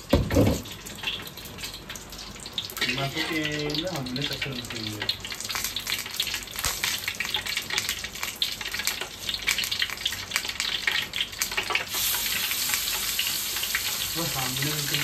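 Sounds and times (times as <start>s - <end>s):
paste sizzling in hot oil: 2.4s - 15.0s.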